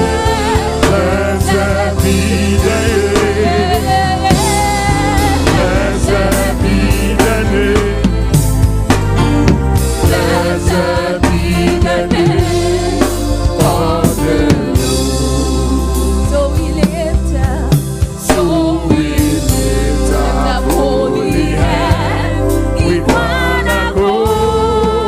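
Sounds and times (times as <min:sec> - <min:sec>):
drum kit hits: 0:00.0 - 0:25.0
gospel choir singing: 0:00.0 - 0:25.0
steady bass line: 0:00.0 - 0:25.0.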